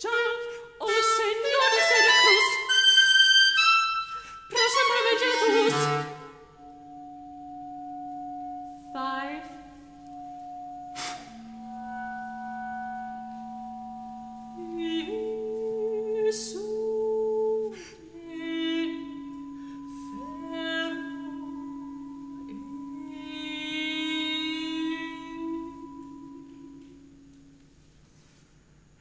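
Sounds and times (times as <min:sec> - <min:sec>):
soprano singing with vibrato: 0:00.0 - 0:27.5
sustained tones: 0:00.0 - 0:29.0.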